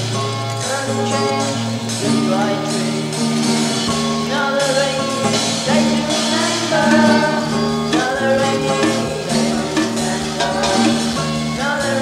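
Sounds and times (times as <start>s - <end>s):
rock band playing: 0.0s - 12.0s
person singing: 0.6s - 12.0s.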